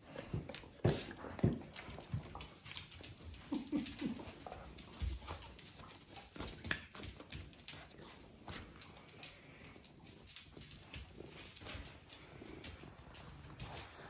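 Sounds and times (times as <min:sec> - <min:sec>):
dog paws thumping on cork floor: 0:00.0 - 0:14.0.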